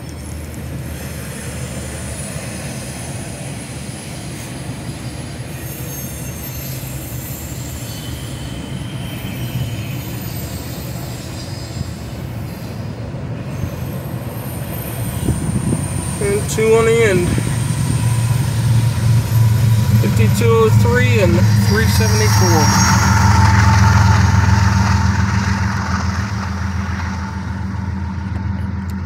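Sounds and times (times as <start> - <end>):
train wheels rumbling on rail: 0.0 - 29.0
high-pitched wheel squeal: 2.2 - 29.0.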